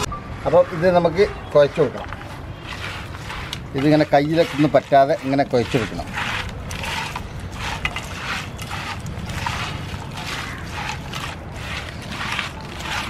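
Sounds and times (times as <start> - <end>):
hands squishing wet food: 2.2 - 13.0.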